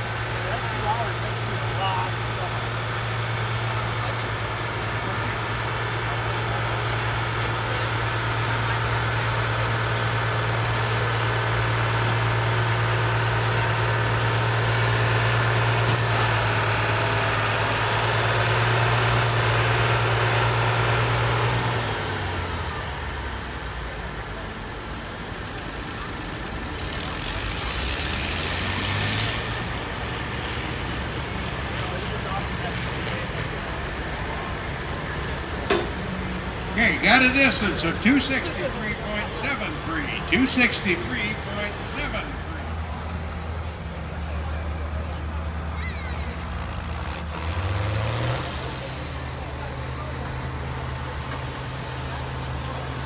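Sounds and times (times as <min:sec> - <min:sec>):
tractor diesel engine droning: 0:00.0 - 0:53.0.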